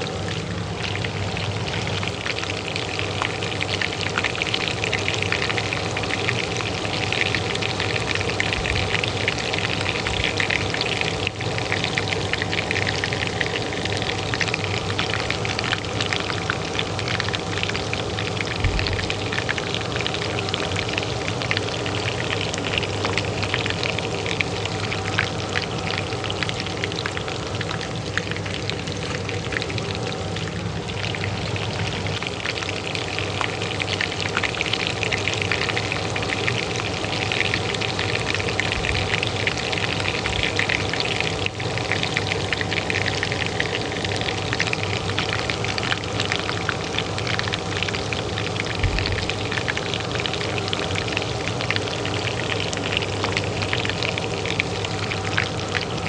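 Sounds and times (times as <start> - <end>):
hot oil sizzling in a pan: 0.0 - 56.0
range hood fan humming: 0.0 - 56.0.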